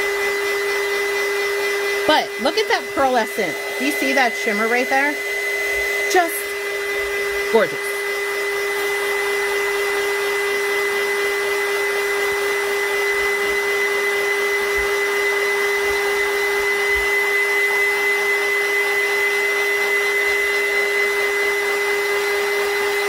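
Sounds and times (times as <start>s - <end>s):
heat gun fan humming and whining: 0.0s - 23.0s.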